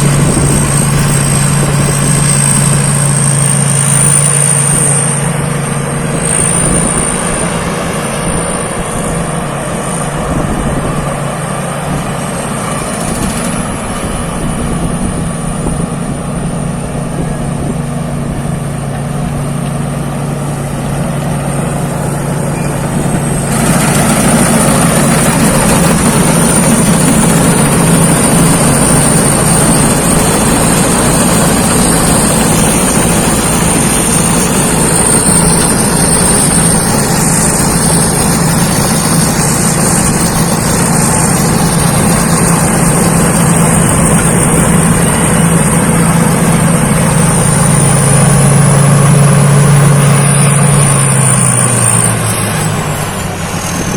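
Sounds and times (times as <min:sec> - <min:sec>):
harvester engine running: 0:00.0 - 0:53.9.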